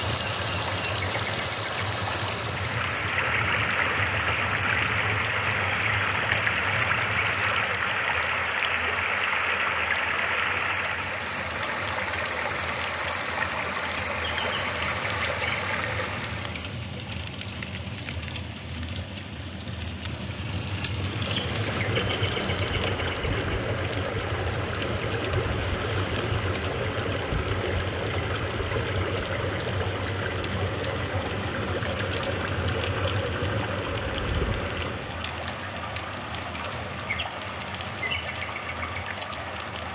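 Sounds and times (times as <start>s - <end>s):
water noise: 0.0s - 39.9s.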